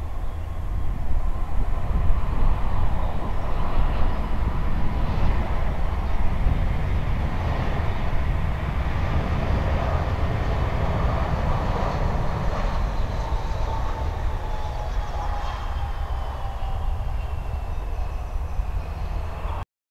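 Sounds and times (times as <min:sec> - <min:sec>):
jet engine low rumble: 0:00.0 - 0:19.6
jet engine whine: 0:00.0 - 0:19.6.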